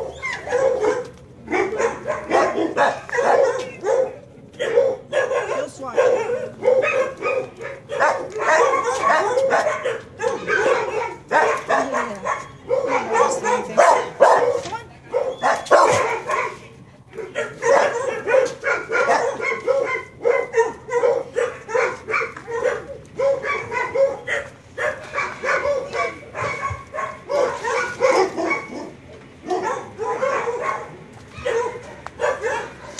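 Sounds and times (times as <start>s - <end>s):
dog barking and yipping: 0.0s - 32.9s.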